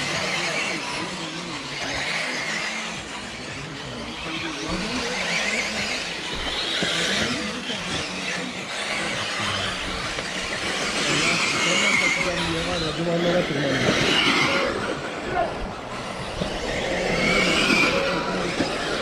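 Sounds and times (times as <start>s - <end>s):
model car motors whining: 0.0s - 19.0s
tyres rushing: 0.0s - 19.0s.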